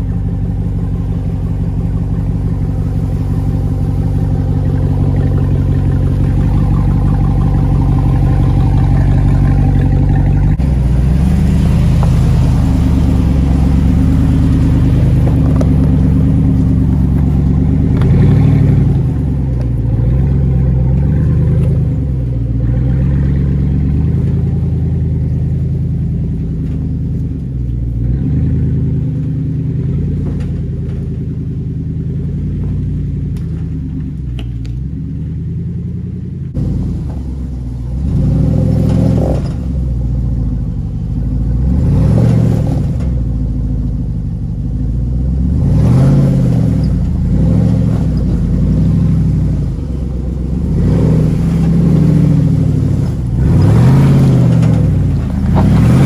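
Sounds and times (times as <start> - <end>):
engine running at low revs: 0.0 - 56.0.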